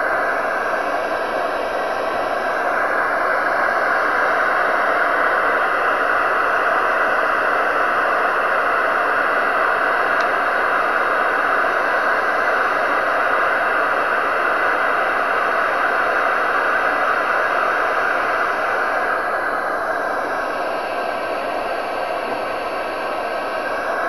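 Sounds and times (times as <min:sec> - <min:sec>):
loud steady hiss: 0:00.0 - 0:24.0.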